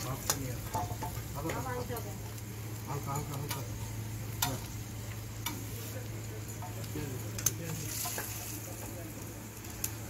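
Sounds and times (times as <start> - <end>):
oil sizzling in a frying pan: 0.0 - 10.0.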